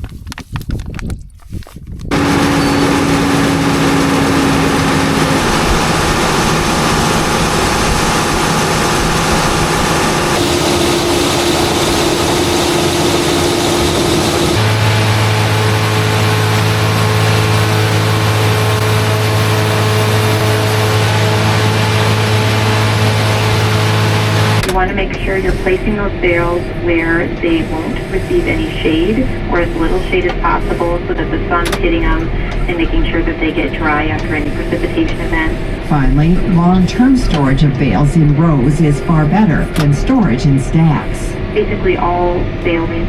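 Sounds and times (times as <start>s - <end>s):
farm machinery engine running: 2.1s - 43.0s.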